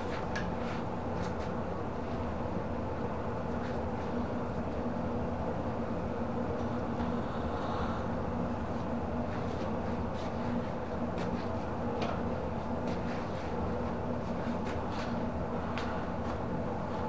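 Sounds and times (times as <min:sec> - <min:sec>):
machine humming drone: 0:00.0 - 0:17.0.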